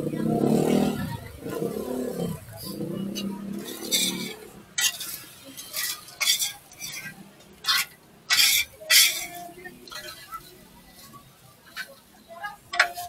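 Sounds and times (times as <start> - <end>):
tongs scraping charcoal in metal grill: 0.4 - 12.0.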